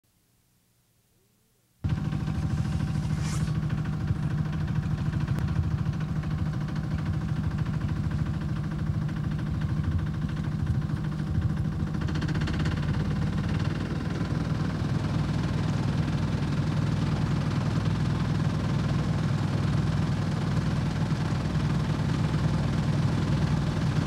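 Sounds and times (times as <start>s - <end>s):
boat engine droning: 1.8s - 24.0s.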